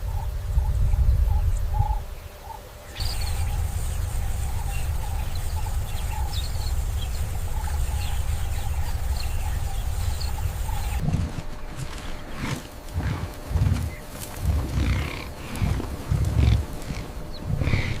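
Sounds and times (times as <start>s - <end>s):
birds calling and chirping: 0.0s - 18.0s
steady low rumble: 0.0s - 18.0s.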